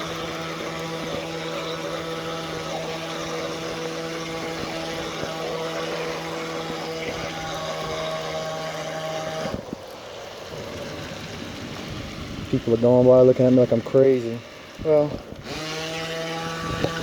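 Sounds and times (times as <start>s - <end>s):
small electric motor humming: 0.0s - 17.0s.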